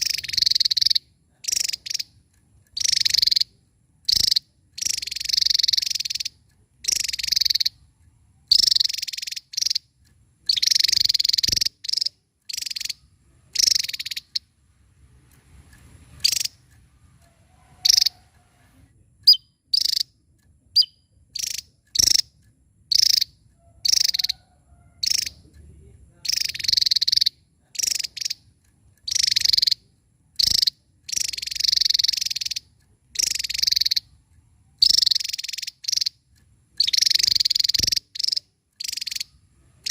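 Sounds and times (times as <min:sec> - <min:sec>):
bird singing rapid high song: 0:00.0 - 0:14.6, 0:15.8 - 0:18.3, 0:19.2 - 0:25.5, 0:26.1 - 0:29.8, 0:30.4 - 0:34.2, 0:34.8 - 0:39.9.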